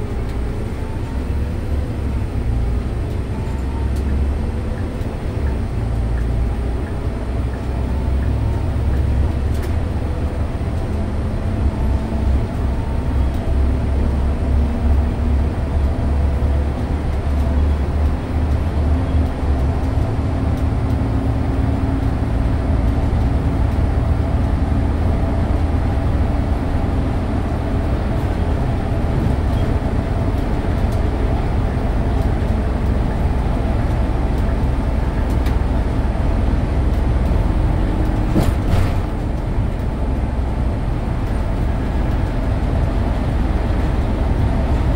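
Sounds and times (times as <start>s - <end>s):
bus drivetrain and road rumble: 0.0s - 44.9s.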